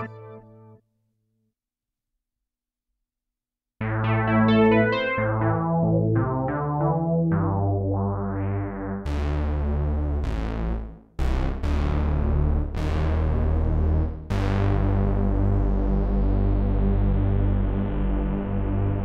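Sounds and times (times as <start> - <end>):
synthesizer chords over held bass: 0.0 - 0.6, 3.8 - 19.0.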